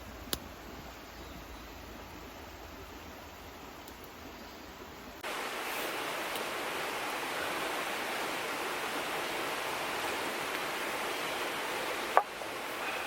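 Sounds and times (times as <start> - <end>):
river water flowing: 1.8 - 13.0.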